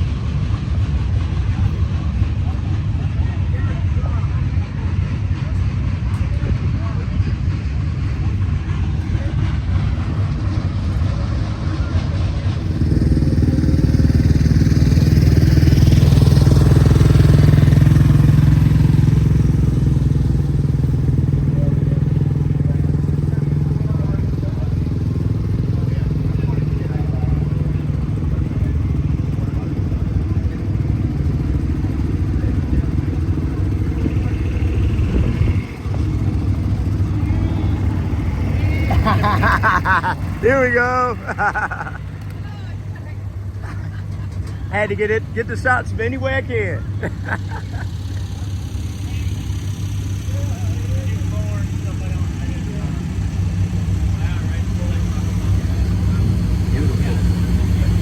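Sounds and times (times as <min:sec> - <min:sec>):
racing car engine running: 0:00.0 - 0:58.0.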